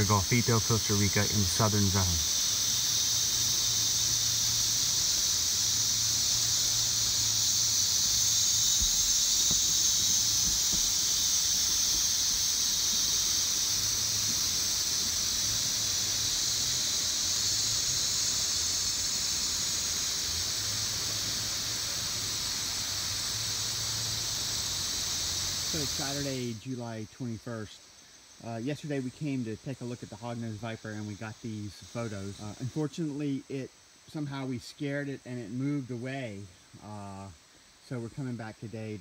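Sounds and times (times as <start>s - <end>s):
insects droning: 0.0s - 39.0s.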